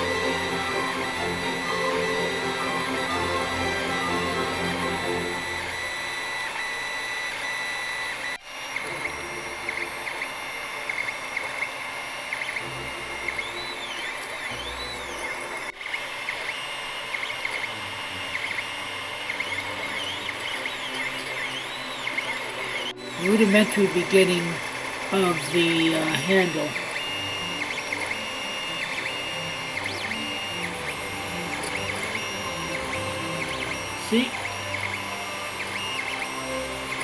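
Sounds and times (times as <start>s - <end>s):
stepper motors whining: 0.0s - 37.0s.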